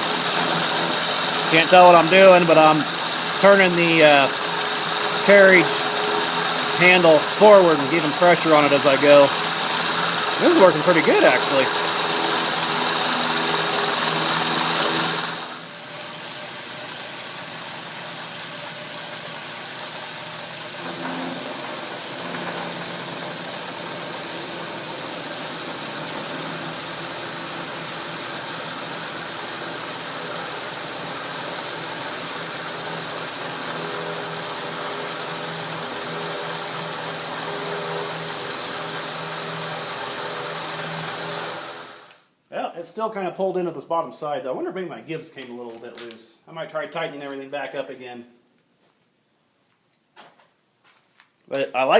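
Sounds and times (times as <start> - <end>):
end mill cutting metal: 0.0 - 42.1
lathe motor hum: 0.0 - 42.2.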